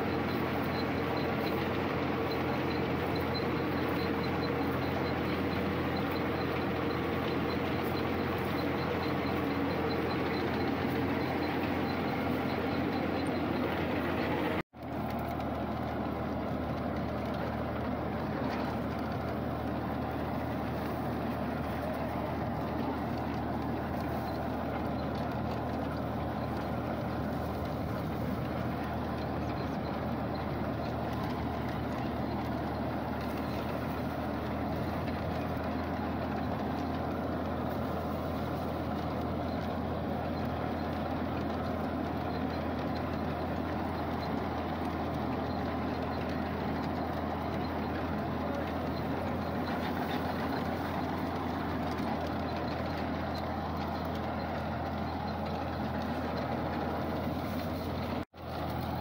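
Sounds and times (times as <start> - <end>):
rattle of digger elevator chain: 0.0 - 59.0
tractor engine running: 0.0 - 59.0.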